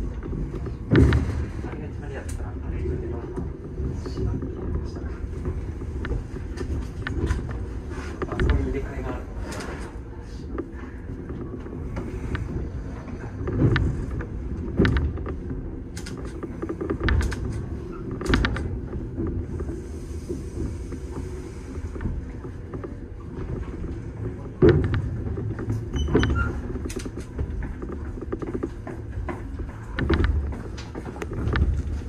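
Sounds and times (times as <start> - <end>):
train rumbling: 0.0 - 32.0
train wheels clanking and creaking: 0.0 - 32.0.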